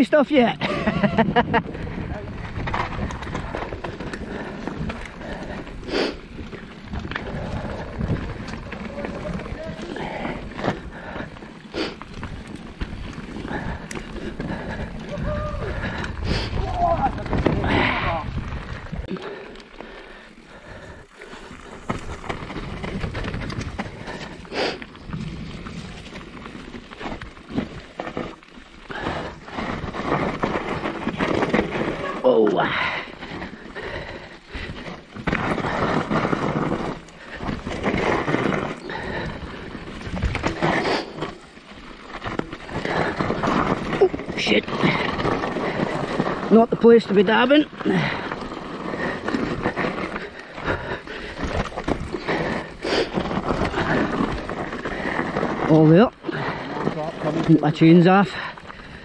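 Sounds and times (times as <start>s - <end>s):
bike rattling over roots: 0.0s - 59.0s.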